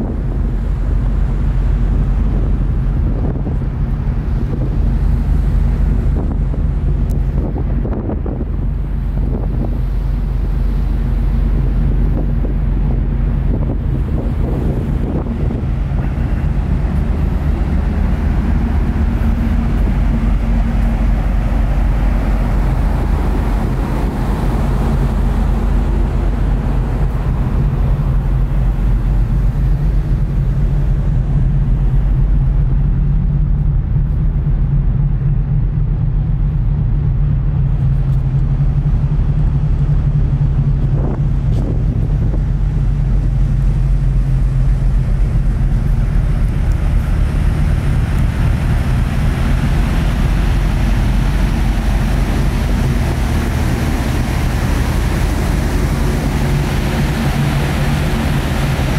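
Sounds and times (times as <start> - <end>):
ferry engines droning: 0.0 - 58.9
wind on microphone: 0.0 - 58.9.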